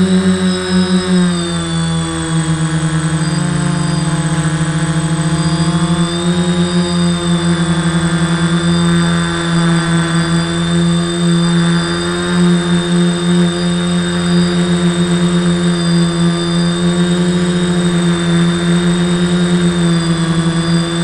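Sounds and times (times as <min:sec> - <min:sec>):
quadcopter motors humming: 0:00.0 - 0:21.0.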